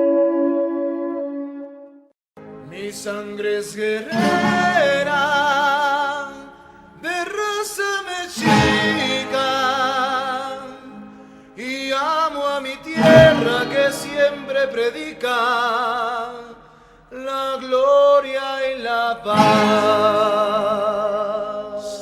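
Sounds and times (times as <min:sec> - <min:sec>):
person singing with vibrato: 0:02.6 - 0:22.0.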